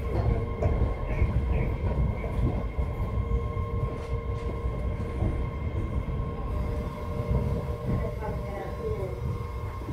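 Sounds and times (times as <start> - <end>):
subway car rumble: 0.0 - 9.9.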